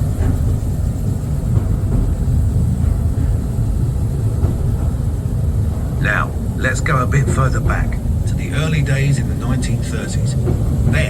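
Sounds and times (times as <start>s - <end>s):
small train rumbling in tunnel: 0.0s - 11.0s.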